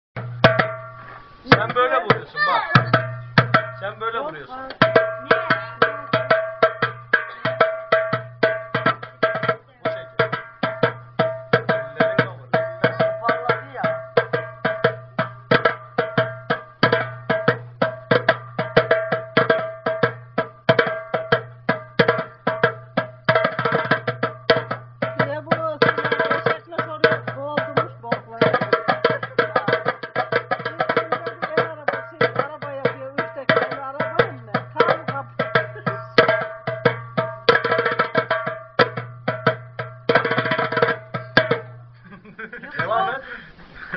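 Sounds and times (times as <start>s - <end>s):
hand drumming on metal drum: 0.2s - 42.0s, 42.6s - 43.2s.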